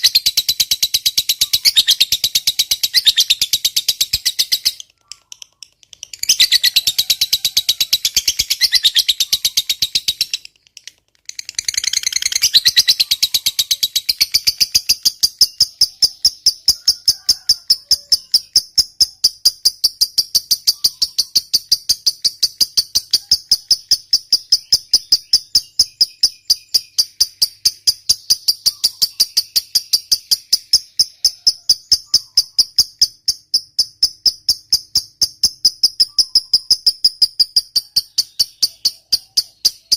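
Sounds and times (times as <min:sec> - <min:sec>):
lovebird trilling: 0:00.0 - 0:39.9.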